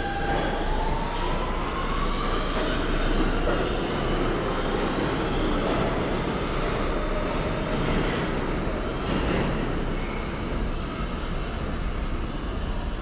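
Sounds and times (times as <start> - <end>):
subway train rumbling and rattling: 0.0 - 13.0.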